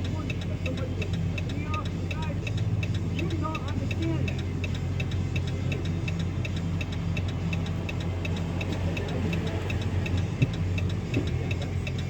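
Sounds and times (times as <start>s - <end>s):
car engine idling: 0.0s - 12.0s
rapid even ticking: 0.0s - 12.0s.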